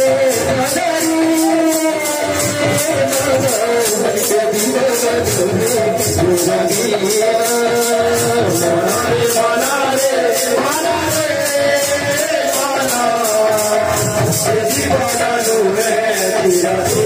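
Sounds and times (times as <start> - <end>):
metal percussion beat: 0.0 - 17.0.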